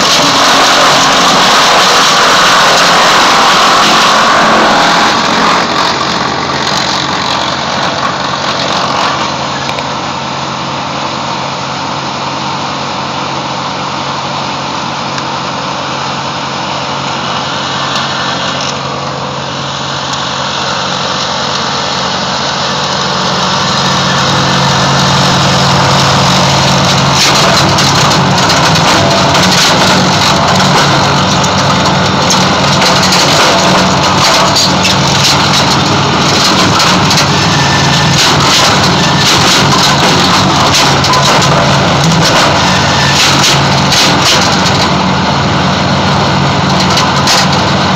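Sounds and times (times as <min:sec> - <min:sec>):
wood chipper engine running: 0:00.0 - 0:47.9.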